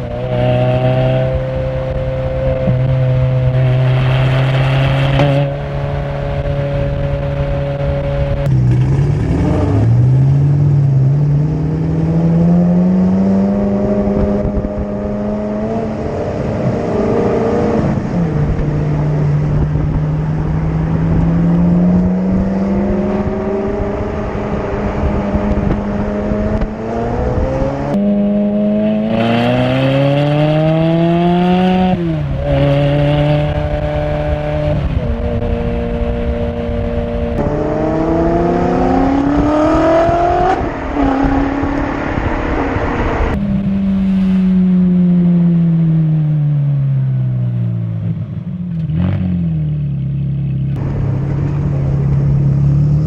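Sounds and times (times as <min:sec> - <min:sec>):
engine revving under load: 0:00.0 - 0:53.0.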